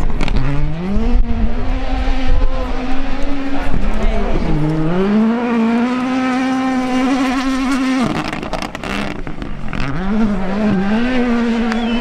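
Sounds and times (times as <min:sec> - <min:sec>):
engine rough crackling: 0:00.0 - 0:12.0
rally car engine revving: 0:00.0 - 0:12.0.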